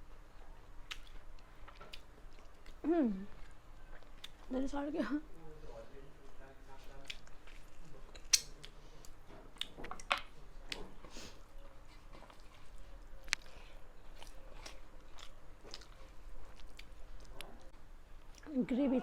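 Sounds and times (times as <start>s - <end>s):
person chewing food: 0.0s - 4.5s, 6.3s - 18.5s.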